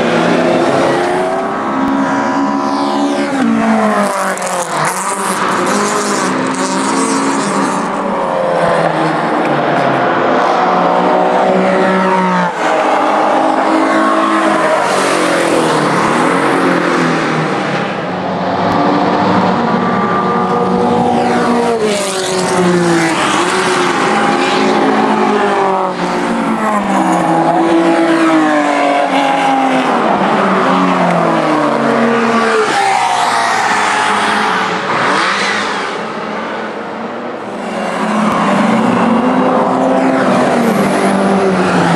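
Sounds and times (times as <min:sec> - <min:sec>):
racing cars accelerating past: 0:00.0 - 0:36.8, 0:37.4 - 0:41.9.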